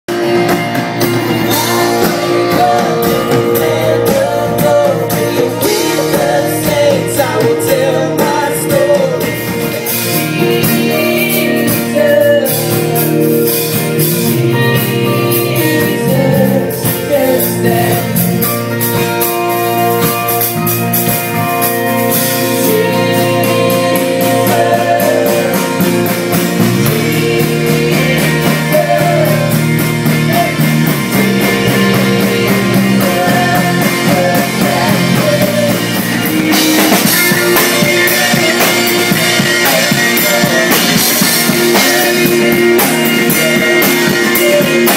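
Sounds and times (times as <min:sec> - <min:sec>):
electric guitar: 0:00.0 - 0:44.9
drum kit: 0:00.1 - 0:44.9
person singing: 0:01.1 - 0:18.8, 0:22.0 - 0:44.9.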